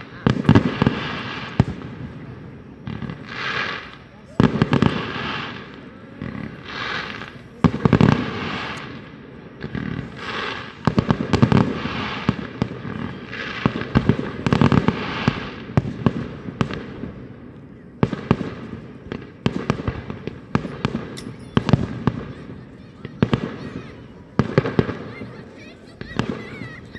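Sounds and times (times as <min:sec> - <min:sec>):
fireworks bursting: 0:00.0 - 0:26.9
fireworks crackling: 0:00.0 - 0:26.9.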